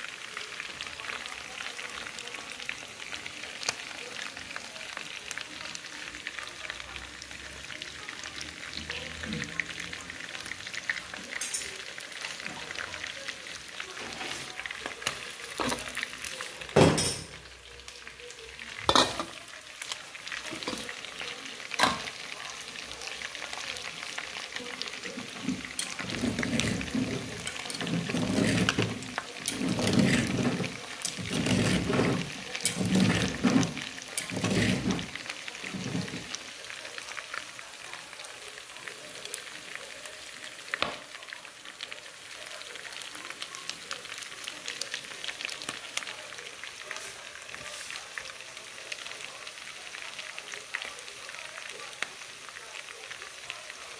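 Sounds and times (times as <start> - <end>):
chicken frying in hot oil: 0.0 - 53.9.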